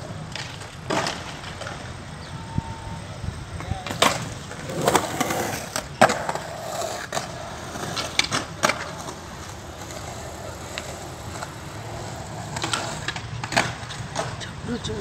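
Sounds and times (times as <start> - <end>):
skateboards rolling on concrete: 0.0 - 15.0
skateboard clacks on concrete: 0.1 - 2.0, 3.6 - 14.5.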